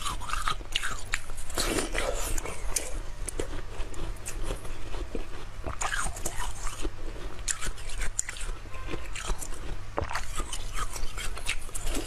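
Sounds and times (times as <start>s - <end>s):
ice being chewed: 0.0s - 12.0s.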